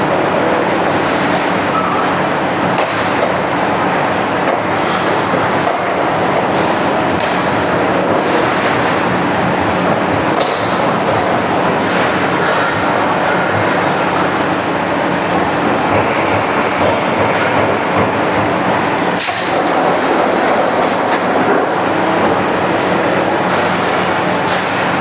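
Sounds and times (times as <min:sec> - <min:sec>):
punching machine running: 0:02.7 - 0:25.0.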